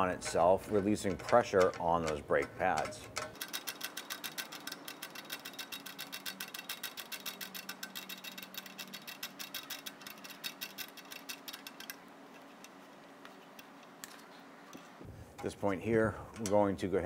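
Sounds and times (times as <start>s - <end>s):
adjuster wheel clicking: 0.0s - 14.8s.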